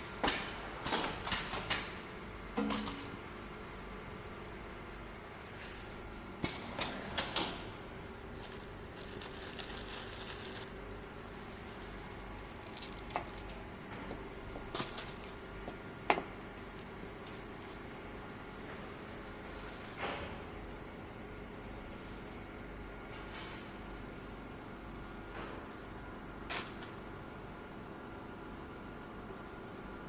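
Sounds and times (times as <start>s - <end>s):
wrapping machine humming: 0.0s - 30.0s.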